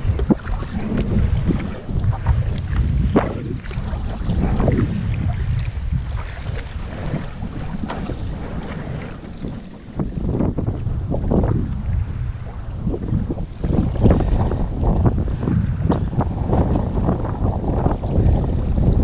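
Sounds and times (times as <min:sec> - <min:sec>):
small waves against hull: 0:00.0 - 0:19.0
water splashing from paddle strokes: 0:00.0 - 0:19.0
wind buffeting microphone: 0:00.0 - 0:19.0.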